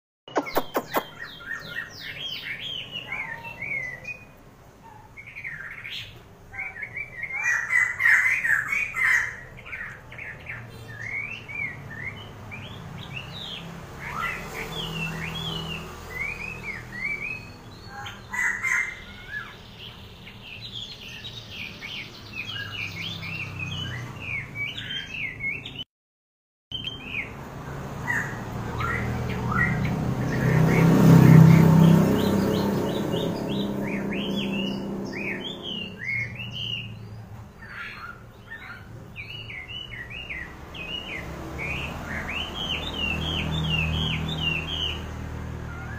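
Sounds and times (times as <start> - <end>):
songbird chirping: 0.3 - 25.9, 26.7 - 45.9.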